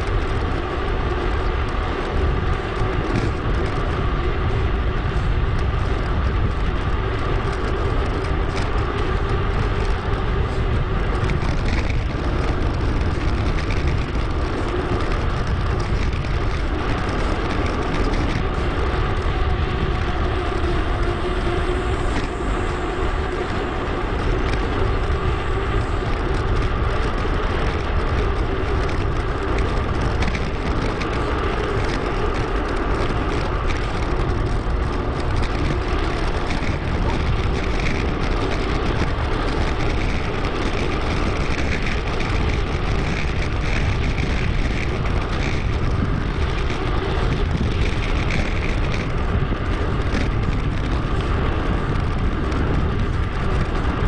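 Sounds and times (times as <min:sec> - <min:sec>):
bicycle rolling noise: 0:00.0 - 0:54.0
wind over microphone: 0:00.0 - 0:54.0.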